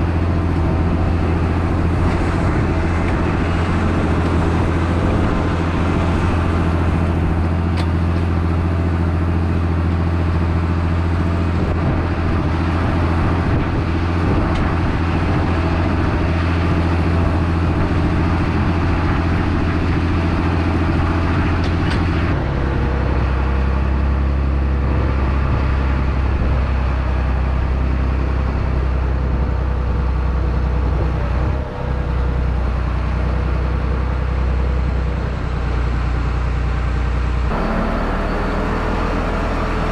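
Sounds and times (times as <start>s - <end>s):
harvester diesel engine running: 0.0s - 39.9s.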